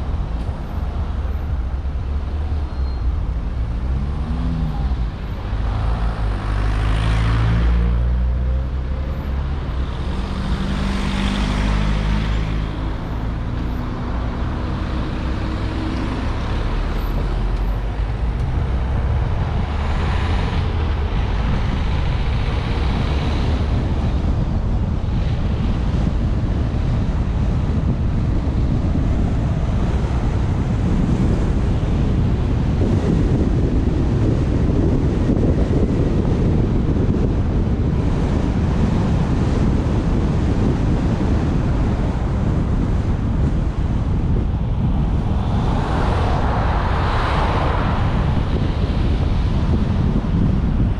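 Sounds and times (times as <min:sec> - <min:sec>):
car engine drone: 0:00.0 - 0:50.9
tyres rumbling on road: 0:00.0 - 0:50.9.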